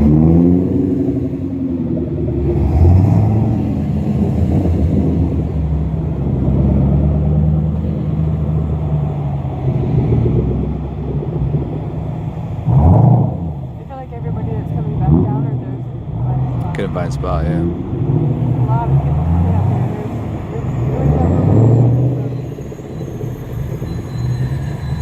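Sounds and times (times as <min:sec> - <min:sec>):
car engines running: 0:00.0 - 0:25.0.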